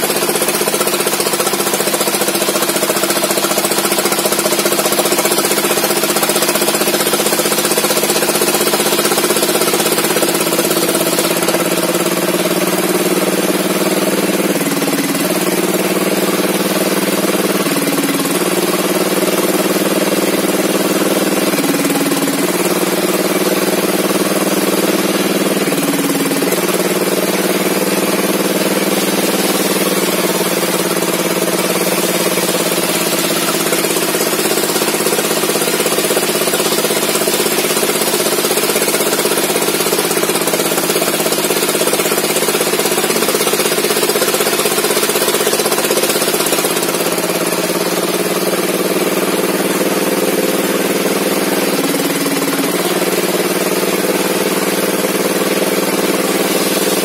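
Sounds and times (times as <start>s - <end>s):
saw engine running under load: 0.0s - 57.0s.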